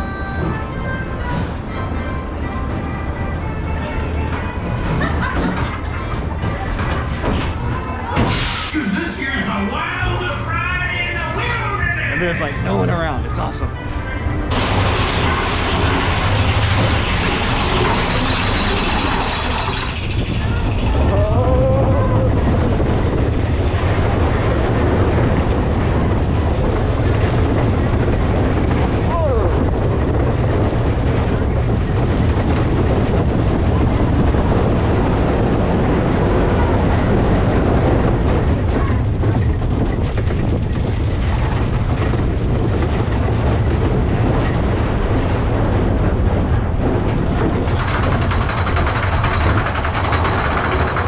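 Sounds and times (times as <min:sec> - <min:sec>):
roller coaster rumbling on track: 0:00.0 - 0:51.0.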